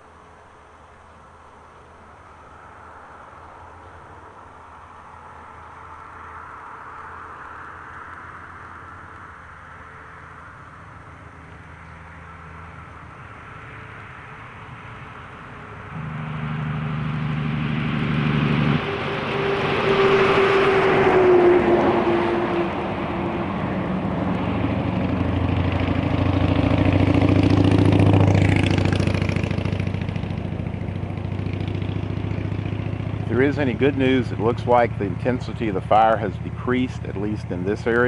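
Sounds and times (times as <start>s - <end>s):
vehicle passing by: 2.5s - 38.0s.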